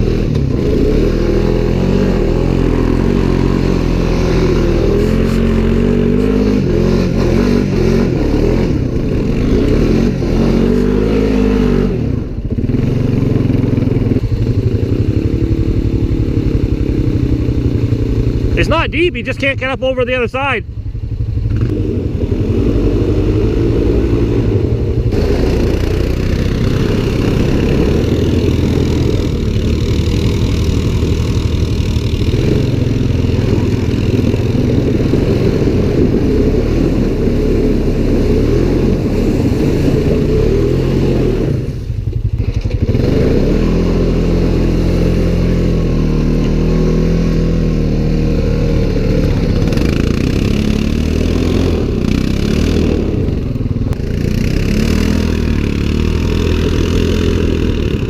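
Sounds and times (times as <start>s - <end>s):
vehicle engine under throttle: 0.0s - 58.0s.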